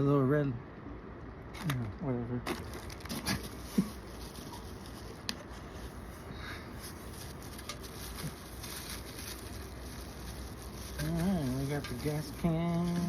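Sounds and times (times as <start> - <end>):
handling of packaging: 2.5 - 13.0.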